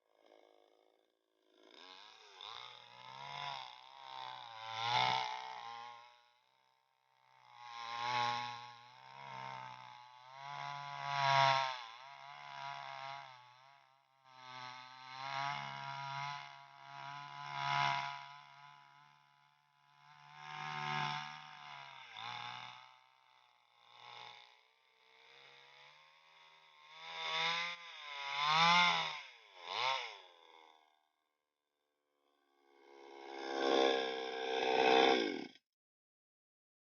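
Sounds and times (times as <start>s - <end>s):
chainsaw engine revving: 0.1s - 6.3s, 7.2s - 31.0s, 32.4s - 35.6s.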